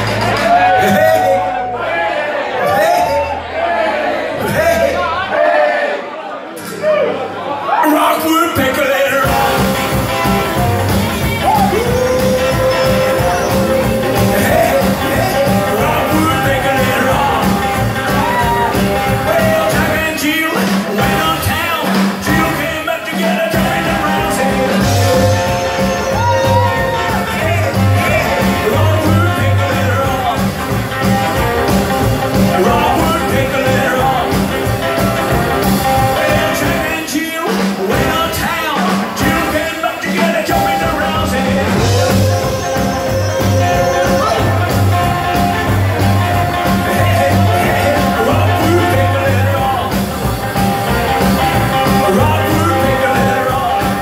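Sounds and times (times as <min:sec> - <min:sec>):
rockabilly band playing: 0:00.0 - 0:05.9, 0:06.5 - 0:54.0
man singing: 0:07.8 - 0:54.0.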